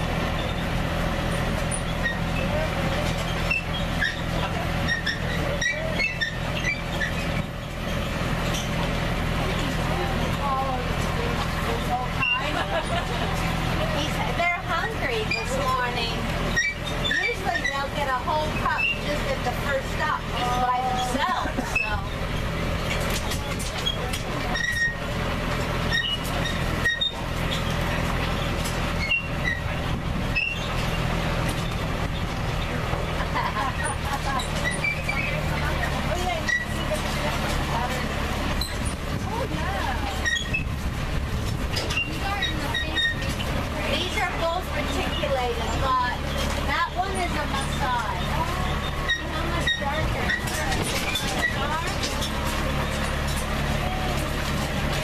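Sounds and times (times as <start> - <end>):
vehicle engine droning: 0.0 - 55.0.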